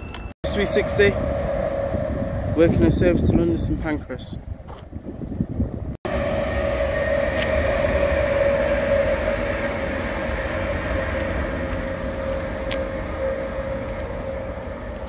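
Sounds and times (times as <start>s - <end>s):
electric train whine: 0.0s - 4.7s, 6.0s - 15.0s
train wheels rumbling: 0.0s - 15.0s.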